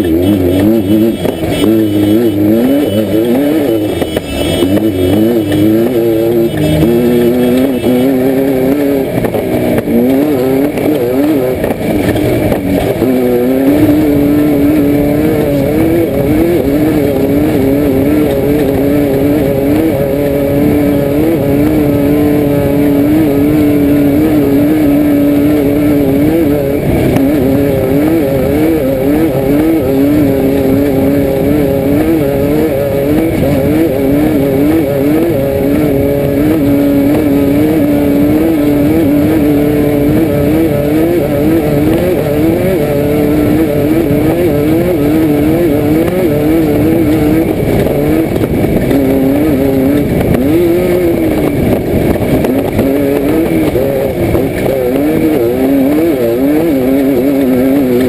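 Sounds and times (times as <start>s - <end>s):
car engine revving under load: 0.0s - 58.0s.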